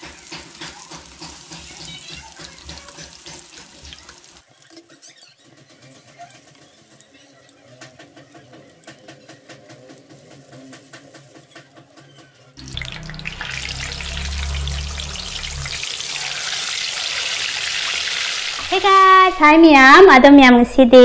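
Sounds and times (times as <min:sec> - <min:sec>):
battered food crackling in oil: 0:00.0 - 0:18.8
fish sizzling in hot oil: 0:00.0 - 0:19.0.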